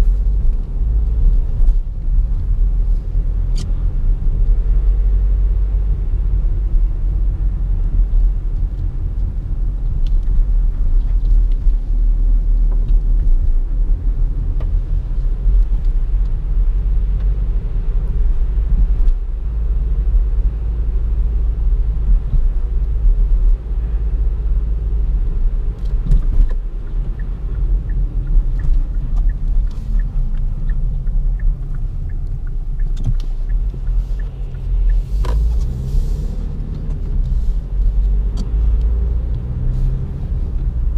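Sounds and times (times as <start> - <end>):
engine and tyre rumble: 0.0 - 40.9.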